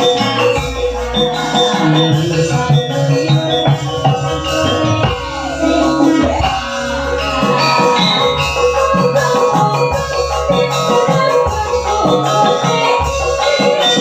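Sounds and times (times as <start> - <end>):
drums: 0.0 - 14.0
metallophones: 0.0 - 14.0
pulsing bass line: 0.0 - 14.0.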